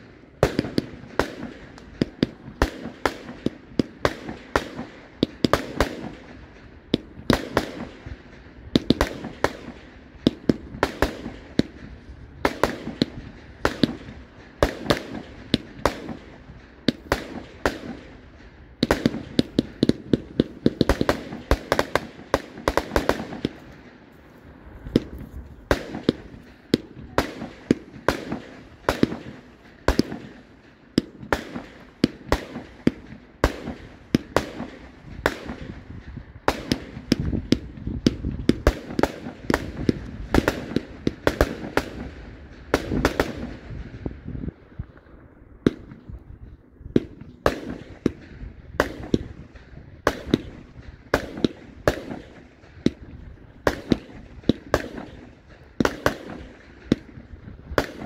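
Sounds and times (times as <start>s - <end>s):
firework bangs: 0.0s - 58.0s.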